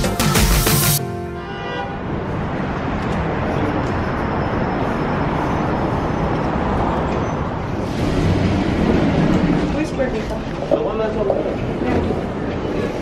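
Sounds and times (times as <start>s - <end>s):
road traffic hum: 1.0s - 13.0s.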